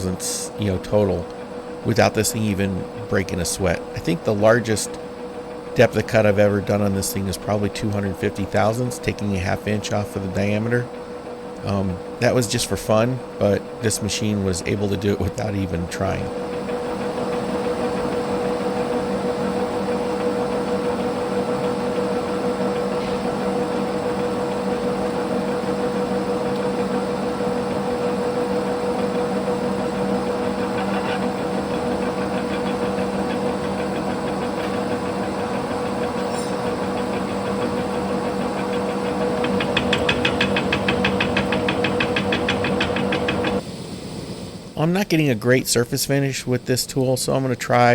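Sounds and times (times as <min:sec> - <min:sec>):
rapid even ticking: 0:00.0 - 0:43.6
turning tool cutting steel: 0:00.0 - 0:43.6
metal lathe humming: 0:00.0 - 0:47.9.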